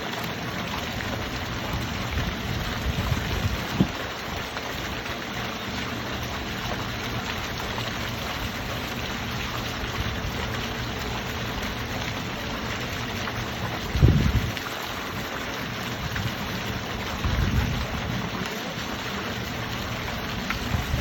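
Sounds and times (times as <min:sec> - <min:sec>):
water fountain splashing: 0:00.0 - 0:21.0.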